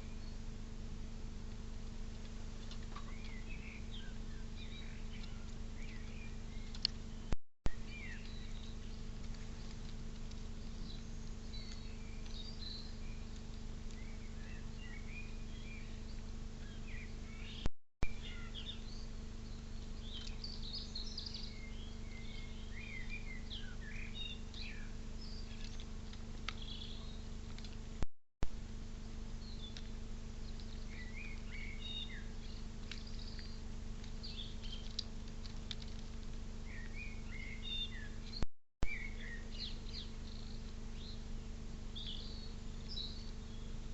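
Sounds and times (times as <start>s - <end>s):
steady low hum: 0.0s - 43.9s
small birds chirping: 1.5s - 28.0s, 29.0s - 43.9s.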